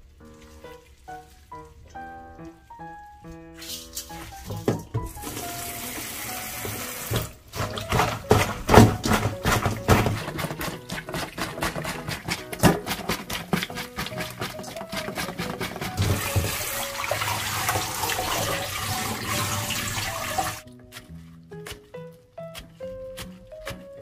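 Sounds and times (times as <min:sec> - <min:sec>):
wet squelches of seaweed kneading: 0:00.0 - 0:24.0.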